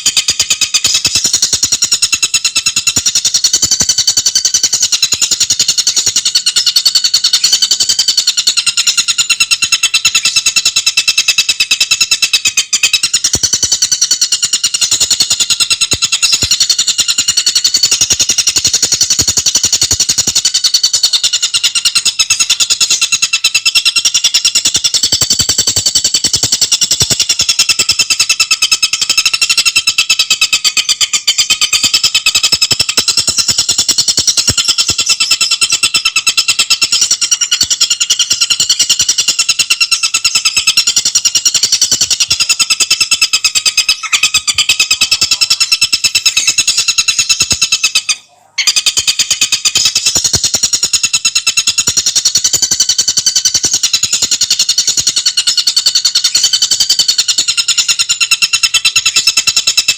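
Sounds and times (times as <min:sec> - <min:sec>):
bird calling in high rattle: 0:00.0 - 0:59.9.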